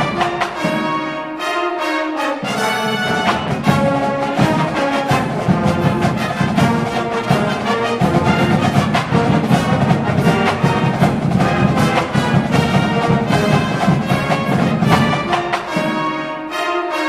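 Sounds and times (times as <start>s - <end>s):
percussion beat: 0.0s - 1.2s, 2.4s - 16.4s
brass band music: 0.0s - 17.0s.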